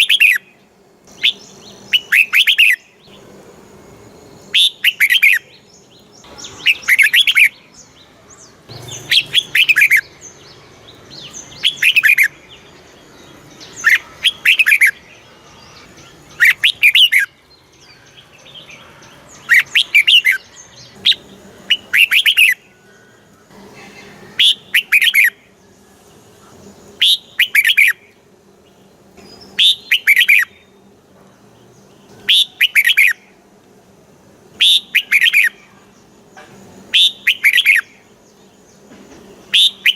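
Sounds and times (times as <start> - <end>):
bulbul singing chirpy song: 0.0 - 39.9.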